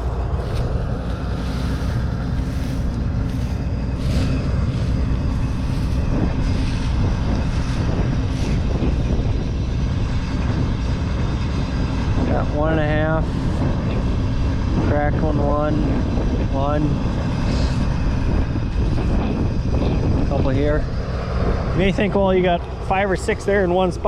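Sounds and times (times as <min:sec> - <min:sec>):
combine harvester engine droning: 0:00.0 - 0:24.0.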